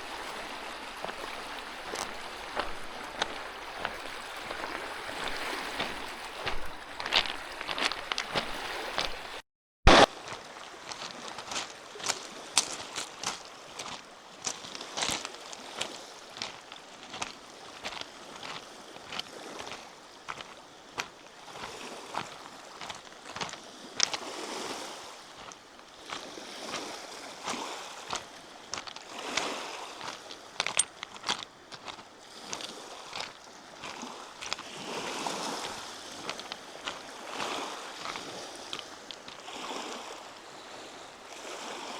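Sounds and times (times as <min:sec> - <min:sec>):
footsteps crunching on trail: 0:00.0 - 0:40.2
waves washing on shore: 0:00.0 - 0:41.9.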